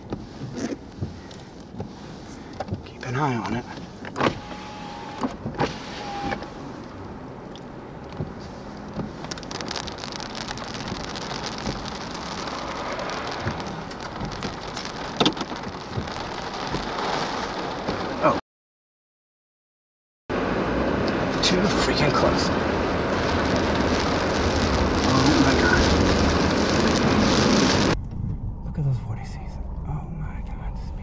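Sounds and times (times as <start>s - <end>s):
rain hitting a vehicle: 0.0s - 18.4s, 20.3s - 28.0s.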